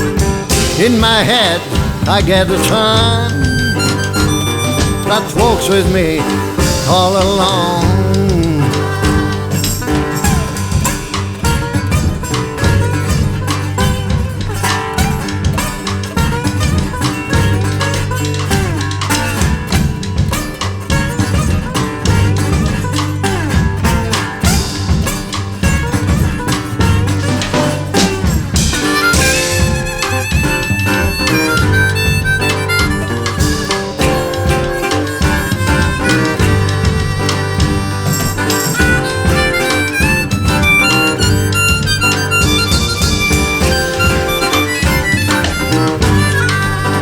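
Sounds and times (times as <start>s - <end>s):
blues band playing: 0.0s - 47.0s
harmonica bending notes: 0.0s - 47.0s
lead guitar: 0.0s - 47.0s.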